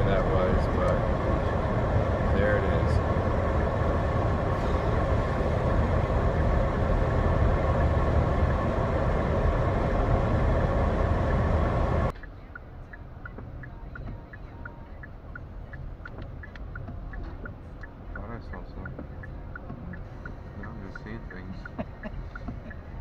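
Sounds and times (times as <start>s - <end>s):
light regular ticking: 0.0s - 22.9s
car road and engine noise: 0.0s - 23.0s.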